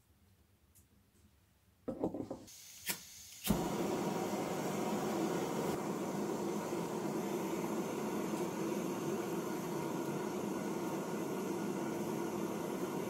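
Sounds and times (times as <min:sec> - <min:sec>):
faint gas hiss: 0:02.4 - 0:13.0
gas burner rushing burn: 0:02.5 - 0:13.0.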